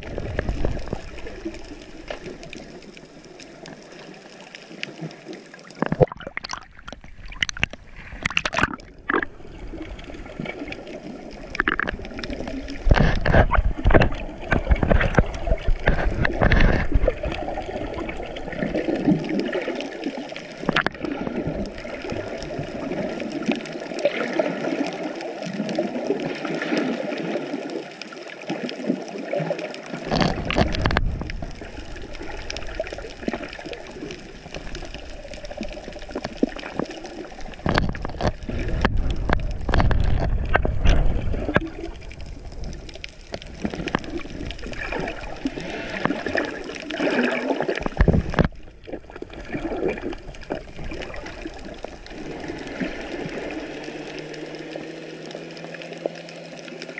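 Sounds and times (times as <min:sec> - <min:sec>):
water sloshing and gurgling: 0:00.0 - 0:56.9
water splashing: 0:00.0 - 0:56.9.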